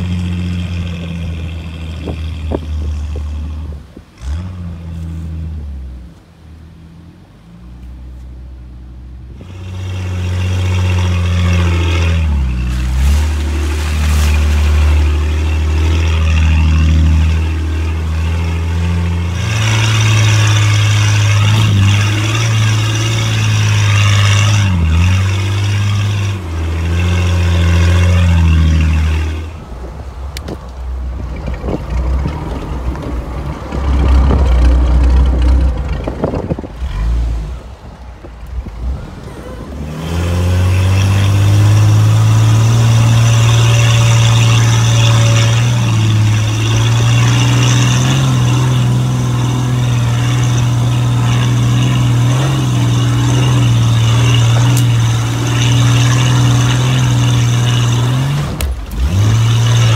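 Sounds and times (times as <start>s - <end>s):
engine pulling under load: 0.0s - 59.9s.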